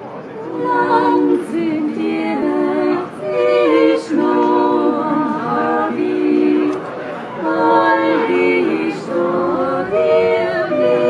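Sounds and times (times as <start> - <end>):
women's choir singing a cappella: 0.4 - 11.0.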